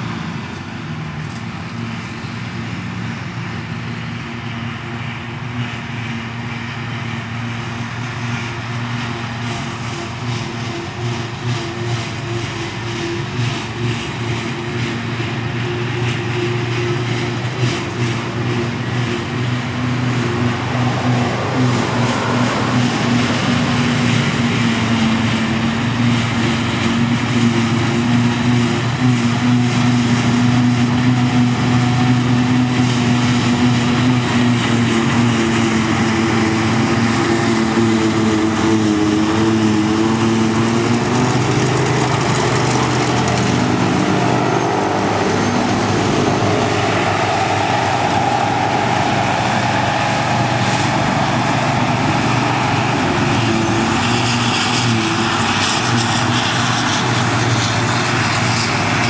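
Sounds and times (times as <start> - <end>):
tractor engine hum: 0.0 - 59.0
forage harvester chopping grass: 9.8 - 59.0.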